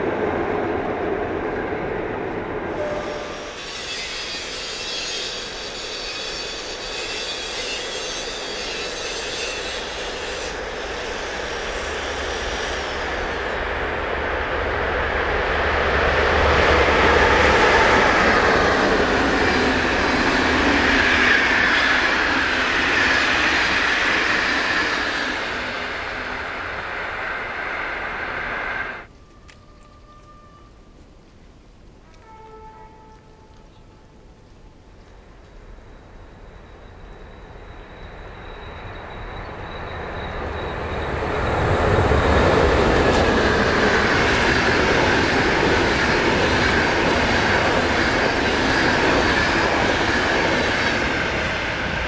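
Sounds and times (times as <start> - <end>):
train wheels on rails: 0.0 - 31.2, 31.9 - 52.0.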